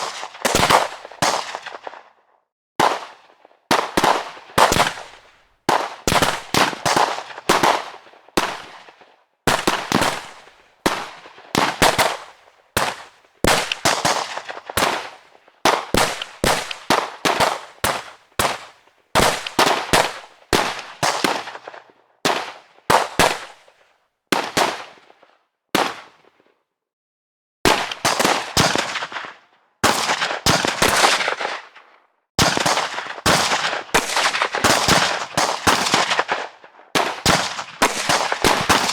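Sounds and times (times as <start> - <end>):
gunshots: 0.0 - 2.1, 2.8 - 23.6, 27.7 - 31.8, 32.4 - 38.9.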